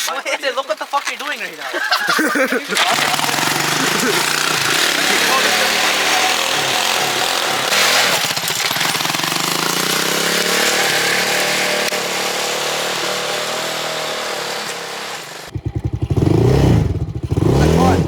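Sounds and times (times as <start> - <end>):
atv engine running: 2.7 - 18.0.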